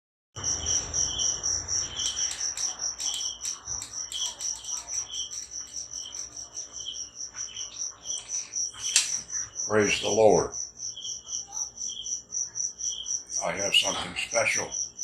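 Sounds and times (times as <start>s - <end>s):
crickets trilling: 0.4s - 15.0s.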